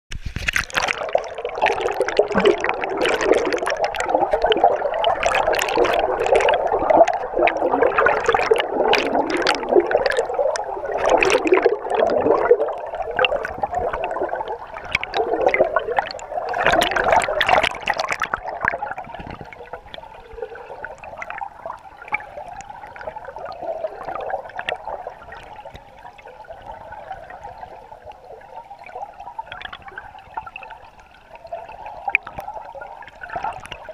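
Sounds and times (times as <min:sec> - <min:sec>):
muffled underwater rushing: 0:00.1 - 0:33.9
water splashing: 0:00.1 - 0:33.9
bubbling: 0:00.2 - 0:33.9.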